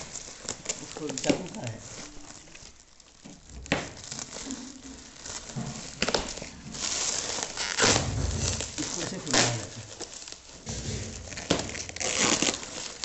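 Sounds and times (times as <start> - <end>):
packing material crinkling: 0.0 - 13.0.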